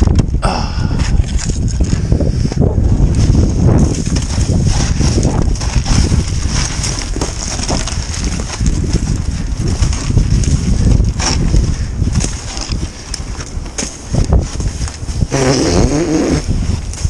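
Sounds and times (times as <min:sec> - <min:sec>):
steady low rumble: 0:00.0 - 0:15.4
crunching and knocking in snow: 0:01.0 - 0:17.0.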